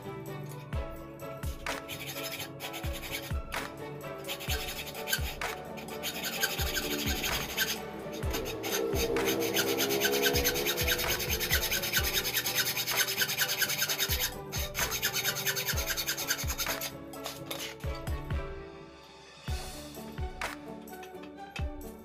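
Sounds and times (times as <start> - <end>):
hacksaw rasping strokes: 0.0 - 18.0.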